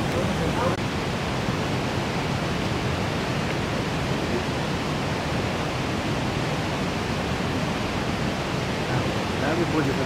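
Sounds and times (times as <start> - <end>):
steady rushing noise: 0.0 - 10.0.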